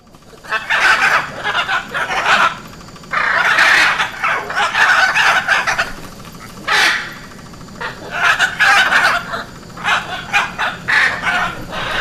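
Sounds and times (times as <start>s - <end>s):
macaws squawking: 0.2s - 12.0s.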